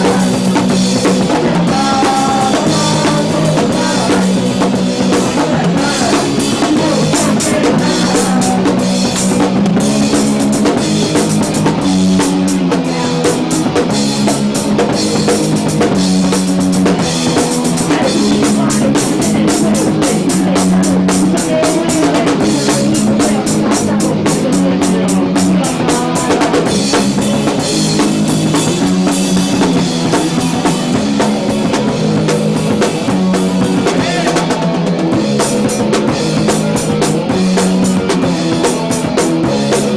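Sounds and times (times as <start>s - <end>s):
punk band playing live: 0.0s - 39.9s.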